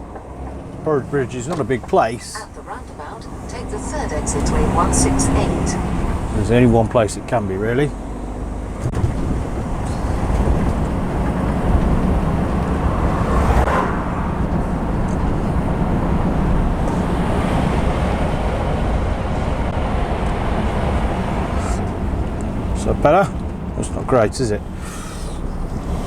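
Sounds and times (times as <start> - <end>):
lorry diesel engine and road noise: 0.0 - 26.0.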